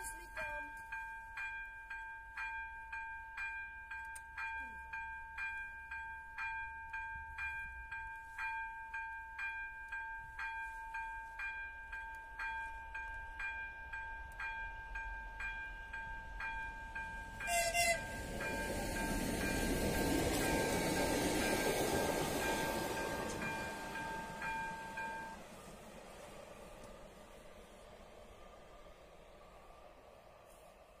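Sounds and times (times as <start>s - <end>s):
level crossing warning bell: 0.0s - 25.5s.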